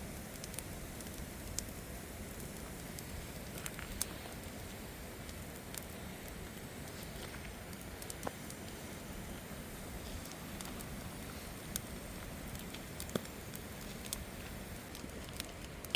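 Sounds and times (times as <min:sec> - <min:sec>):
campfire crackling: 0:00.0 - 0:15.9
fire popping: 0:00.0 - 0:15.9
low hiss: 0:00.0 - 0:15.9.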